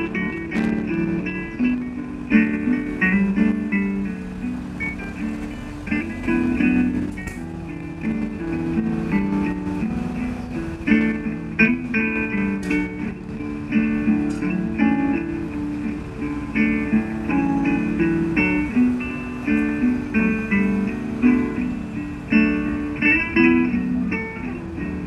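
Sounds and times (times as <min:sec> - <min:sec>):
guitar plucking melody: 0:00.0 - 0:25.0.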